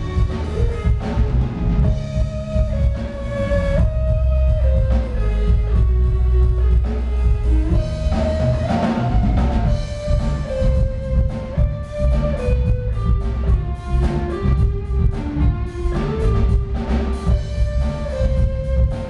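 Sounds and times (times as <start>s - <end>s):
deep electric bass line: 0.0s - 19.0s
drum kit: 0.0s - 19.0s
held melody notes: 0.0s - 19.0s.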